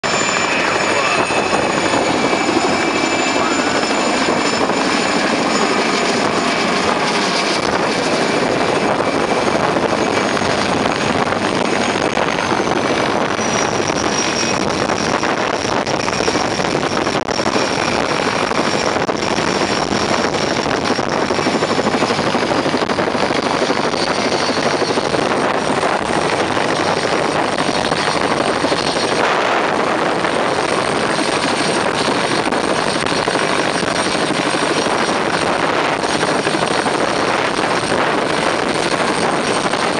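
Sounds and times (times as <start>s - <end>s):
helicopter rotor noise: 0.0s - 39.9s
high turbine whine: 0.0s - 39.9s.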